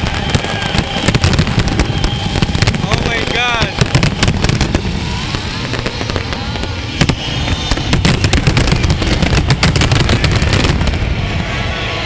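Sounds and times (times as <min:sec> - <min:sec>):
rapid firework cracks and pops: 0:00.0 - 0:11.0
firework bang: 0:00.0 - 0:12.0
low rumble: 0:00.0 - 0:12.0.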